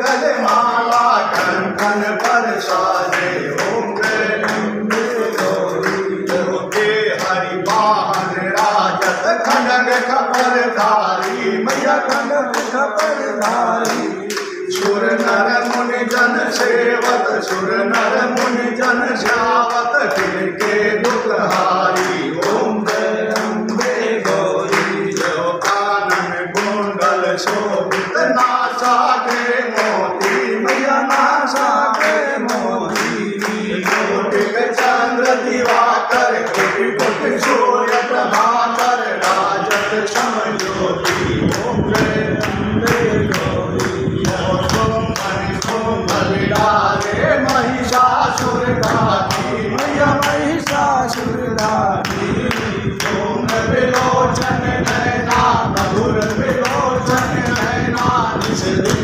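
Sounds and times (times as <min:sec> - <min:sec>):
group singing devotional song: 0:00.0 - 0:59.0
rhythmic hand-clapping: 0:00.0 - 0:59.0.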